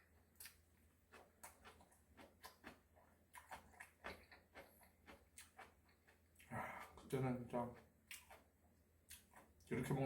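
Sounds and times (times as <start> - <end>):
chewing mouth sounds: 0.3 - 10.0.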